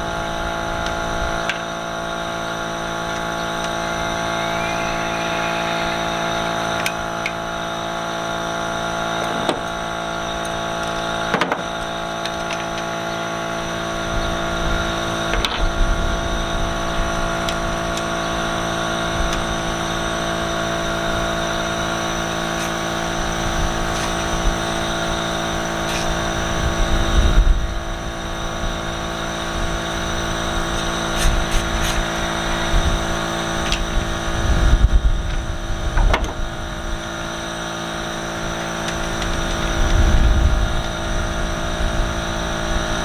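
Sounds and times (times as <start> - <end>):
steady mechanical drone: 0.0 - 43.0.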